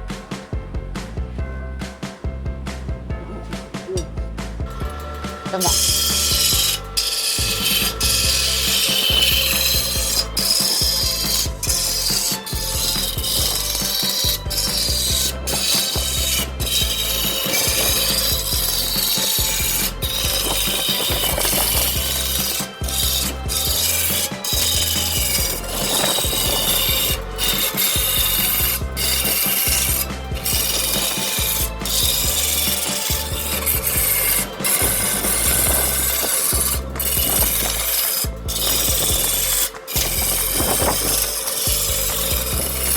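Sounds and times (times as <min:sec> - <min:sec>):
tool scraping spinning wood: 0:00.0 - 0:42.9
lathe motor humming: 0:04.7 - 0:42.9.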